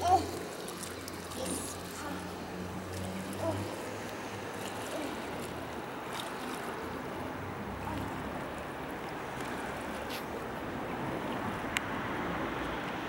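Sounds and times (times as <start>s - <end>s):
faint small splashes: 0.0s - 12.2s
water swishing and lapping: 0.0s - 13.0s.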